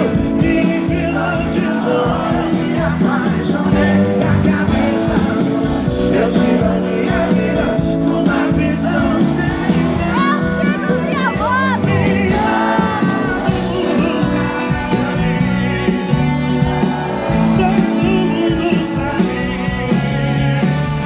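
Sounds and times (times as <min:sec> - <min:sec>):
person singing: 0:00.0 - 0:20.6
live band music: 0:00.0 - 0:21.0.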